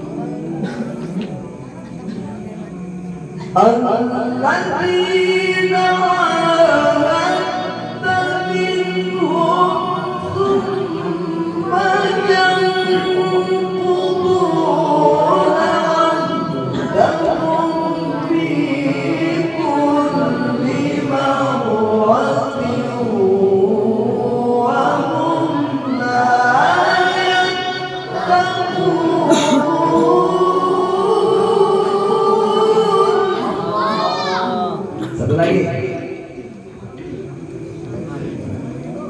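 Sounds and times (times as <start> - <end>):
man reciting melodically: 0.0 - 39.0.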